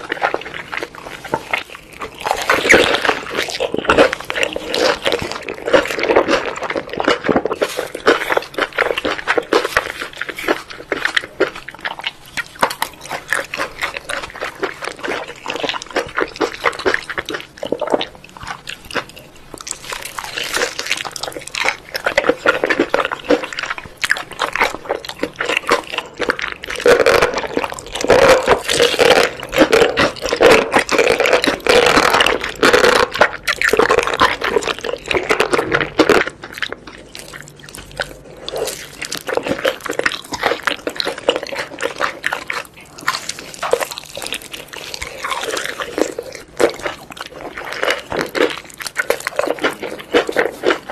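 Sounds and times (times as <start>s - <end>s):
wet chewing and lip smacking: 0.0s - 50.9s.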